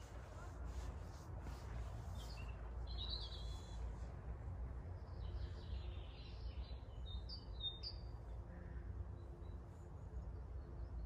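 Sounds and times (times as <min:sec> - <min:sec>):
small birds singing: 0:02.0 - 0:11.0.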